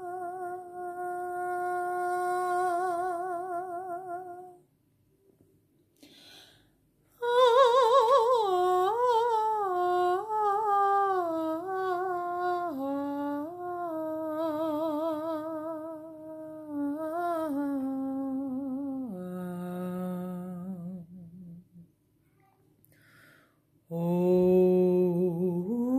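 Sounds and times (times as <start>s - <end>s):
person humming tones: 0.0s - 4.6s, 7.2s - 21.9s, 23.9s - 25.9s.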